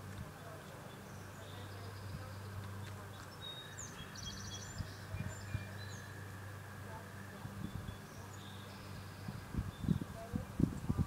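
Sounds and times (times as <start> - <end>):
small birds chirping and trilling: 0.0 - 11.0
steady low hum: 0.0 - 11.0.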